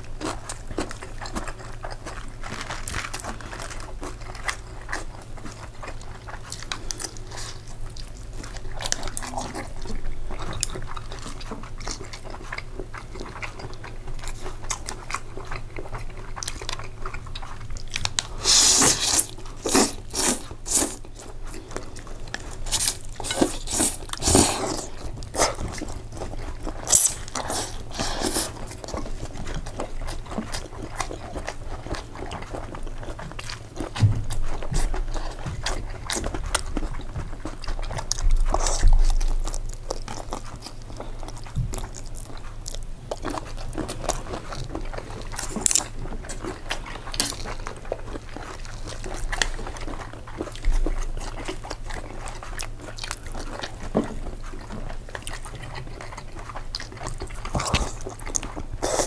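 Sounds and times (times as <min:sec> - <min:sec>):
person chewing pasta: 0:00.0 - 0:59.0.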